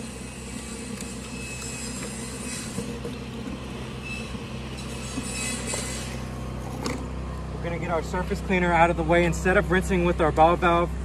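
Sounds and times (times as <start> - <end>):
pressure washer droning: 0.0 - 11.0.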